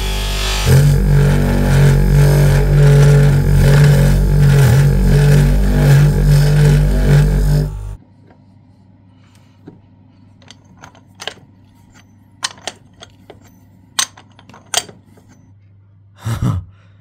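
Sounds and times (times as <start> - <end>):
low steady hum: 0.0 - 16.1.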